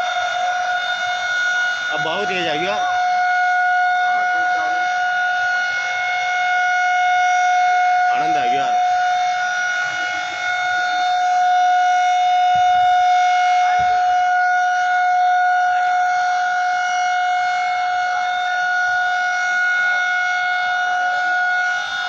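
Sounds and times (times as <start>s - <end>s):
steady warning siren: 0.0s - 22.0s.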